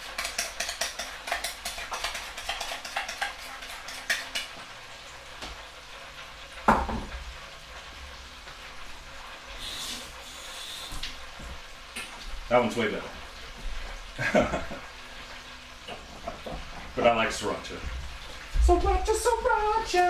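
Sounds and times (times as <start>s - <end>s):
oil sizzling in deep fryer: 0.0s - 20.0s.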